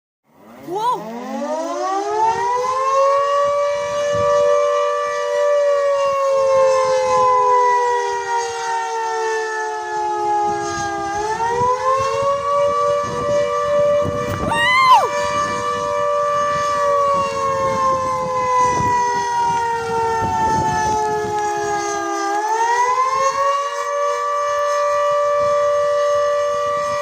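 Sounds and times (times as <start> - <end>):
air-raid siren wailing: 0.3 - 27.0.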